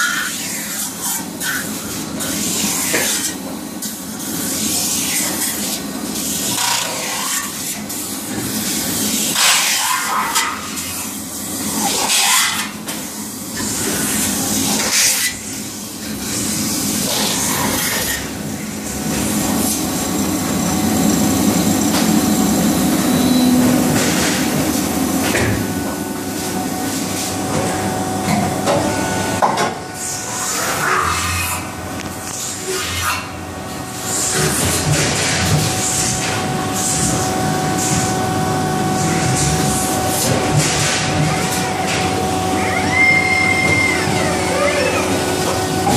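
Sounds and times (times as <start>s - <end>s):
low machine hum: 5.8s - 45.9s.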